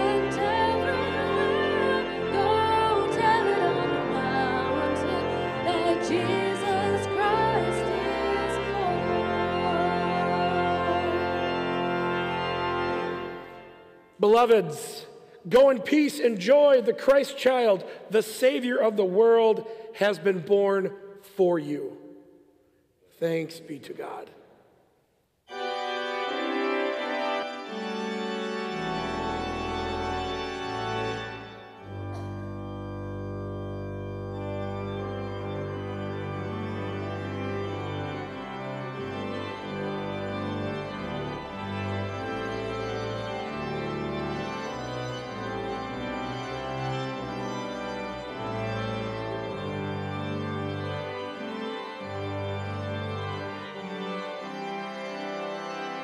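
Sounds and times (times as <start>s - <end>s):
deep organ pedal bass notes: 0.0s - 14.4s, 25.5s - 56.0s
church organ chords: 0.0s - 24.5s, 25.4s - 56.0s.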